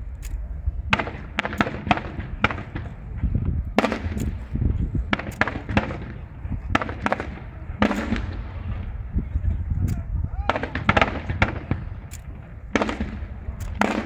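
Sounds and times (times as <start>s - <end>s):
steady low rumble: 0.0s - 14.0s
fireworks bangs: 0.8s - 9.7s, 10.4s - 14.0s.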